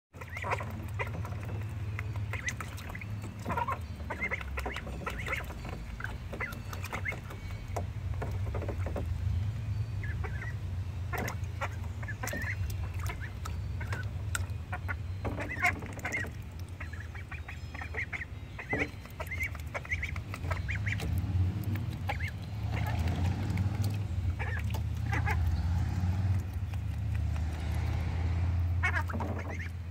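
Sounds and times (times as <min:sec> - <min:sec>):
ducklings peeping and quacking: 0:00.2 - 0:29.9
water splashing: 0:00.2 - 0:29.9.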